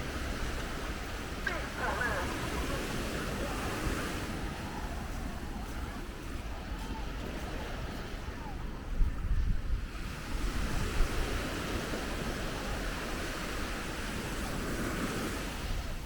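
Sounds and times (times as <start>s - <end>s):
ocean surf washing onto beach: 0.0s - 16.0s
wind rumble on microphone: 0.0s - 16.0s.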